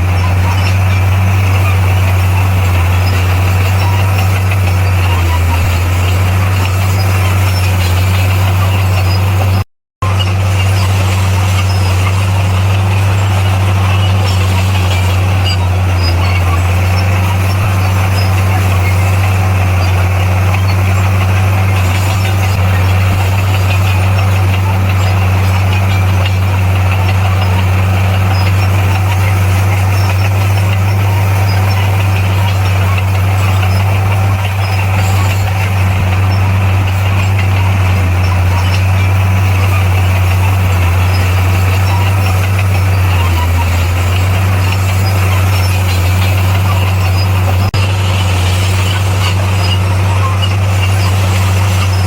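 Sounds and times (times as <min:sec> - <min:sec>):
diesel engine droning: 0:00.0 - 0:52.0.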